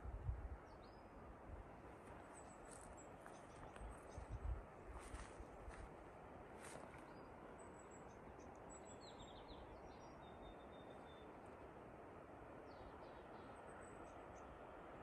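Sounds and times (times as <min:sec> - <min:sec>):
low outdoor hiss: 0:00.0 - 0:15.0.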